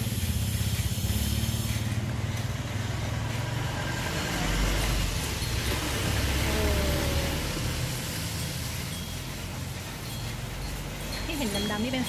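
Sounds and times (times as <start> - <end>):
street background hiss: 0.0 - 12.0
vehicle engine rumbling: 0.0 - 12.0.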